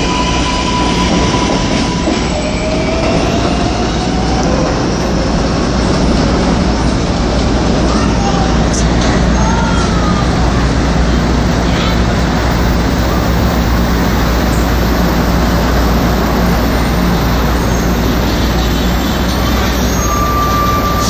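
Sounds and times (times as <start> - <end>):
train rumbling on elevated tracks: 0.0 - 21.0.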